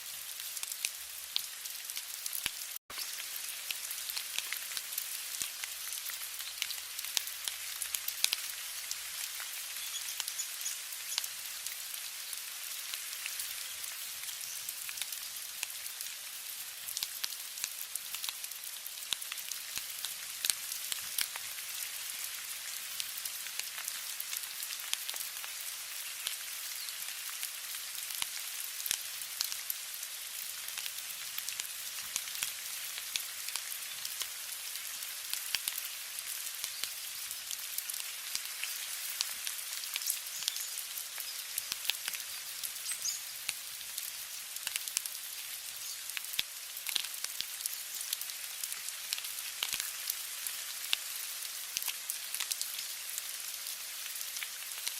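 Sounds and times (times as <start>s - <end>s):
raindrops pattering: 0.0s - 54.9s
steady rain hissing: 0.0s - 54.9s.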